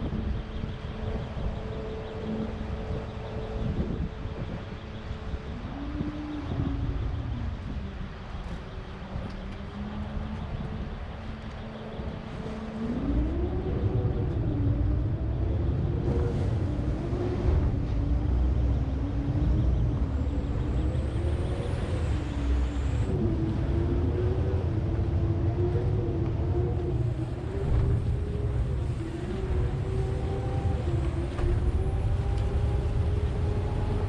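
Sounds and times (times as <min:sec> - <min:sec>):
large engine idling and revving: 0:00.0 - 0:34.0.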